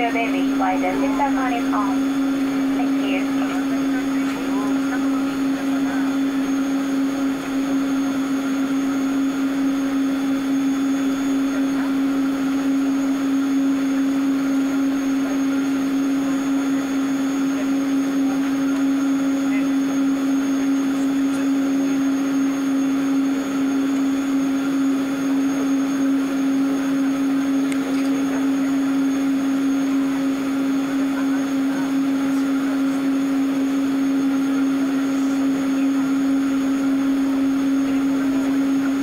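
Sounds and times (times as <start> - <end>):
jet engines droning whine: 0.0 - 39.0.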